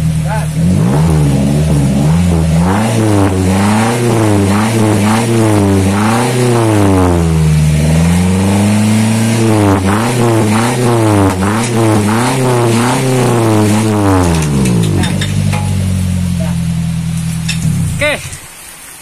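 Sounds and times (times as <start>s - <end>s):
pickup truck engine revving: 0.0s - 18.4s.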